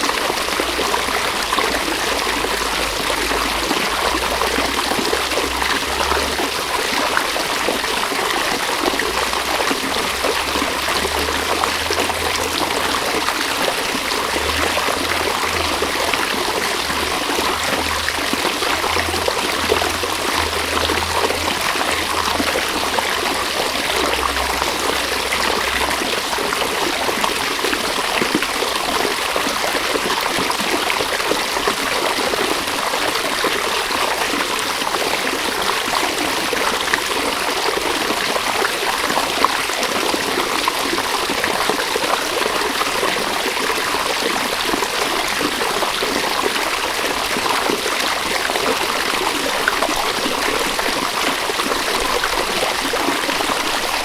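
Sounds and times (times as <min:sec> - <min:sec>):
stream water rushing over stones: 0:00.0 - 0:54.0.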